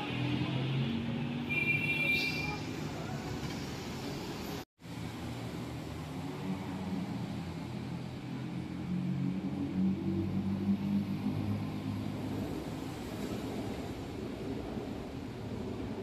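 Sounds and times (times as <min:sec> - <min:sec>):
traffic hum and hiss: 0:00.0 - 0:16.0.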